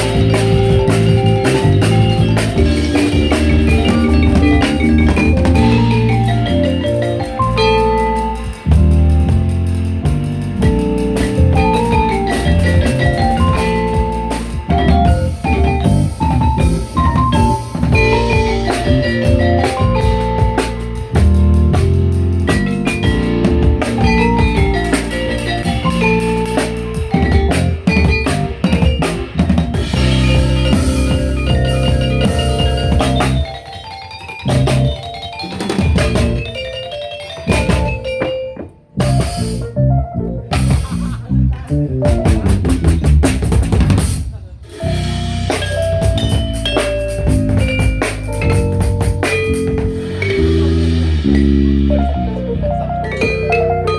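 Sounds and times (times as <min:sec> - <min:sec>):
drum kit kick and snare: 0:00.0 - 0:33.8, 0:34.5 - 0:36.7, 0:37.5 - 0:39.8, 0:40.4 - 0:52.3
live fusion band playing: 0:00.0 - 0:53.9.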